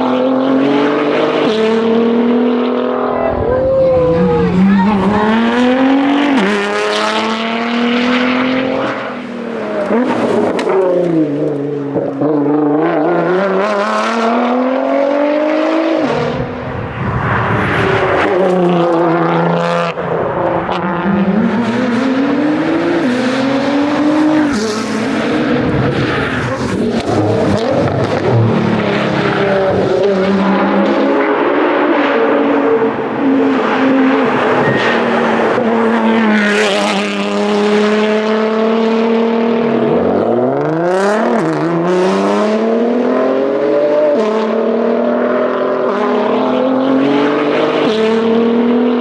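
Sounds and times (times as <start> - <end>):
car engine accelerating through gears: 0.0 - 49.0.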